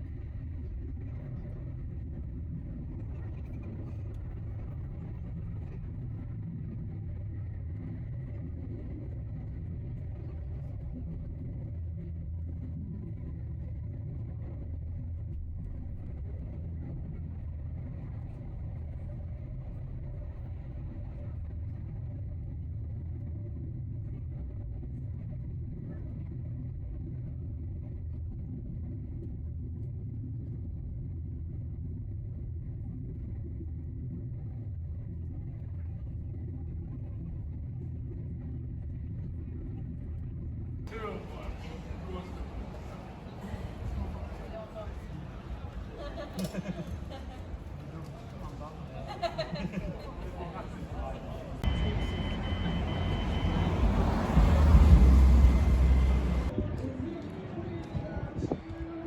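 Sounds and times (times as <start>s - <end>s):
low vehicle rumble: 0.0s - 59.0s.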